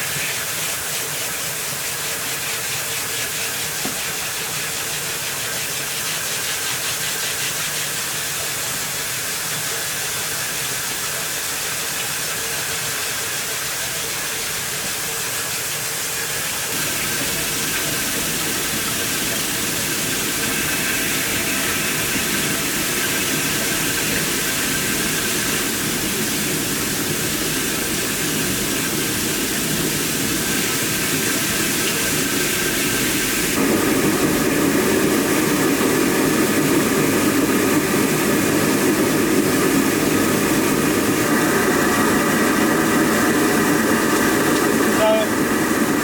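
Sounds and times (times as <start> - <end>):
water rushing through turbine: 0.0 - 46.0.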